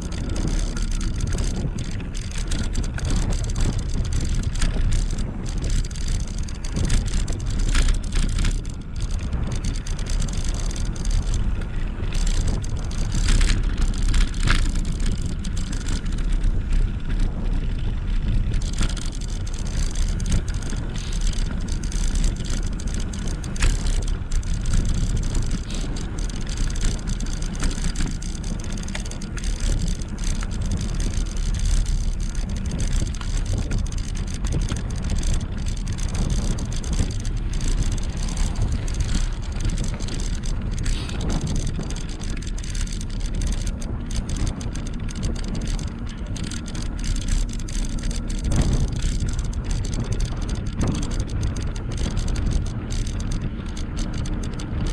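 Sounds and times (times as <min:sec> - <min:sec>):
e-bike rumble: 0:00.0 - 0:54.9
wind buffeting microphone: 0:00.0 - 0:54.9.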